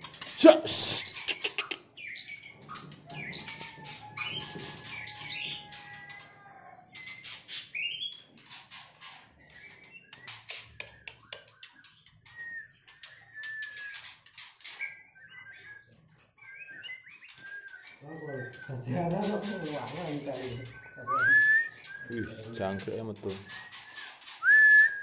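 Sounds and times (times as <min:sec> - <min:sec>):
bird chirps and clicks: 0:00.0 - 0:06.3, 0:06.9 - 0:25.0
bird whistles: 0:00.2 - 0:06.0, 0:09.5 - 0:25.0.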